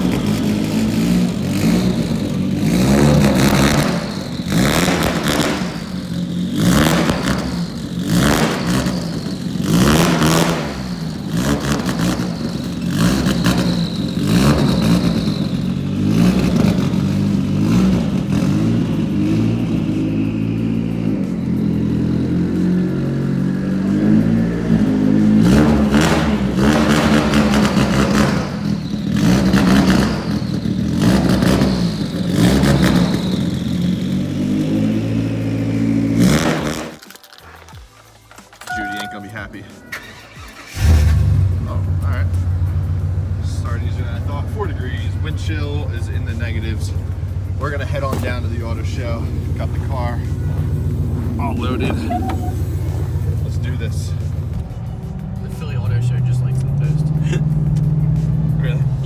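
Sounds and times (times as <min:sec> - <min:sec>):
vehicle engine running: 0:00.0 - 0:37.0, 0:38.3 - 0:59.0.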